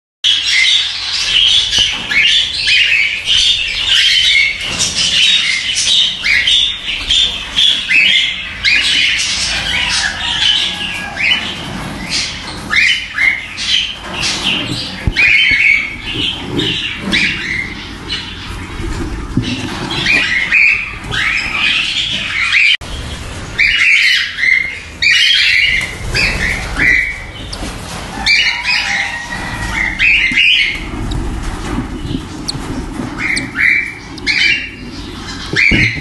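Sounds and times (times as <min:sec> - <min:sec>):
cockatiels squawking: 0:00.3 - 0:22.8, 0:23.6 - 0:36.0.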